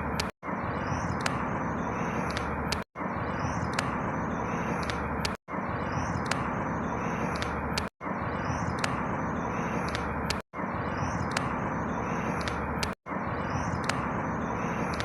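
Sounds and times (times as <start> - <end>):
high bird chirps: 0.0 - 15.0.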